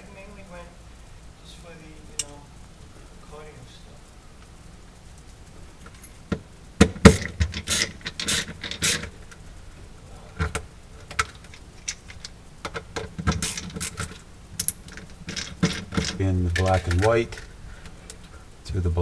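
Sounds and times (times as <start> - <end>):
electrical wires rustling: 0.0 - 19.0.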